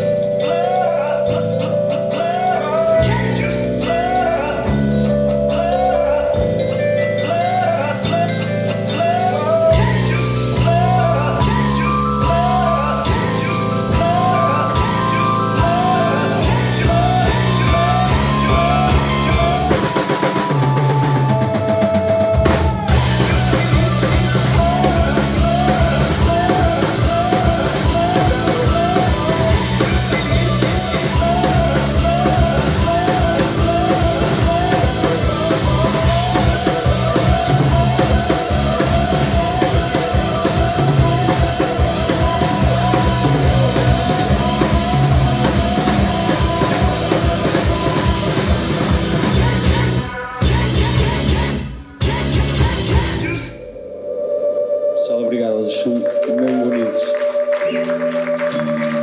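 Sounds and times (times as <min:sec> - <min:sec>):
rock band playing live: 0:00.0 - 0:53.6, 0:55.8 - 0:59.0.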